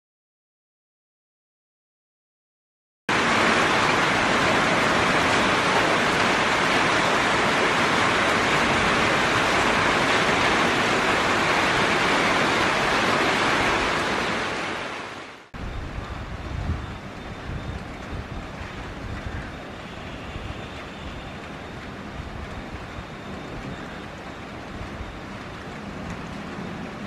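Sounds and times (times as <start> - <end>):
steady rain falling: 3.1 - 27.0.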